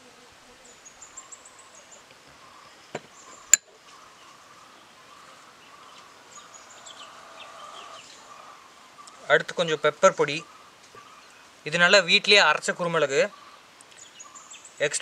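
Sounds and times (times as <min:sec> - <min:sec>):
faint outdoor hum: 0:00.0 - 0:15.0
birds chirping: 0:00.6 - 0:15.0.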